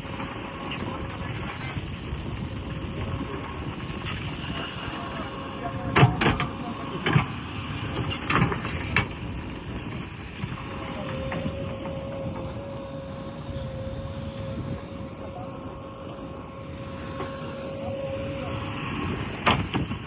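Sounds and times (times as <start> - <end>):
steady whine: 0.0 - 20.0.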